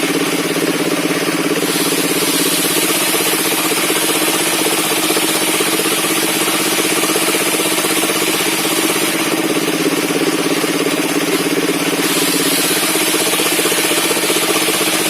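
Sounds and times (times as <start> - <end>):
sawmill engine pulsing: 0.0 - 15.0.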